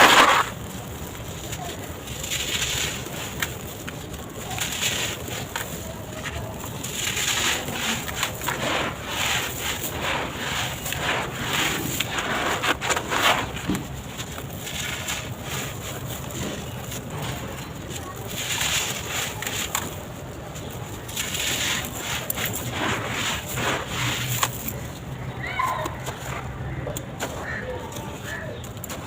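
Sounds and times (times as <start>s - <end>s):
blocks crushed with gritty crunching: 0.0s - 29.0s.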